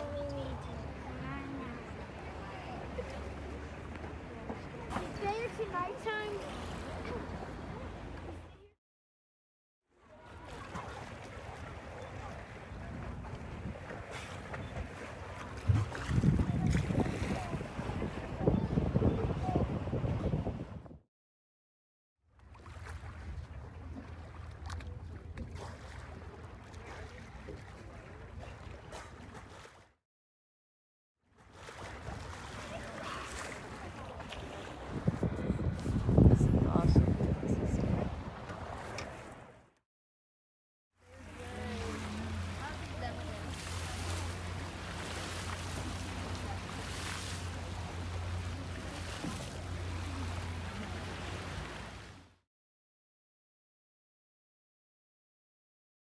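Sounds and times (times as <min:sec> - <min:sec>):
water noise: 0:00.0 - 0:08.7, 0:09.9 - 0:21.0, 0:22.3 - 0:30.0, 0:31.2 - 0:39.8, 0:41.0 - 0:52.4
boat engine rumble: 0:00.0 - 0:08.8, 0:09.9 - 0:21.0, 0:22.4 - 0:29.9, 0:31.3 - 0:39.8, 0:41.0 - 0:52.4
wind: 0:00.0 - 0:08.8, 0:09.8 - 0:21.0, 0:22.2 - 0:30.0, 0:31.2 - 0:39.8, 0:40.9 - 0:52.4.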